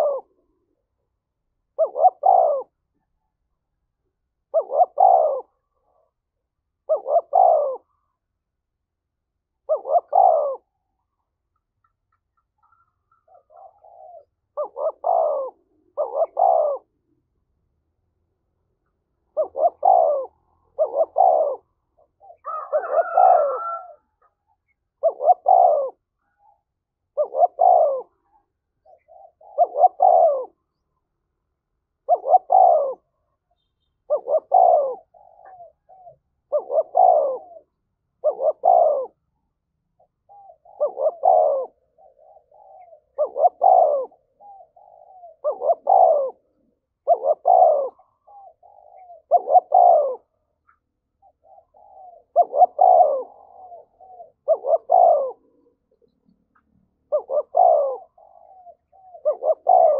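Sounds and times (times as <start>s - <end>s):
dove cooing: 0.0s - 8.6s, 9.3s - 11.4s, 12.4s - 17.3s, 19.2s - 30.9s, 31.9s - 39.4s, 40.0s - 59.9s.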